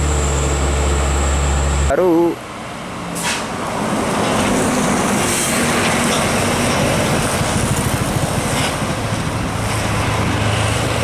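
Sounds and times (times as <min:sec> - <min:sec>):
bus engine running: 0:00.0 - 0:11.0
tyres on the road: 0:00.0 - 0:11.0.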